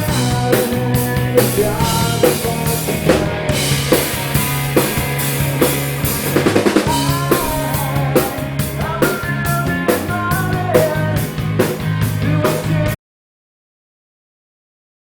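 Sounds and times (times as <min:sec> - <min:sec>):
drum kit beating: 0:00.0 - 0:13.0
rock band playing: 0:00.0 - 0:13.0.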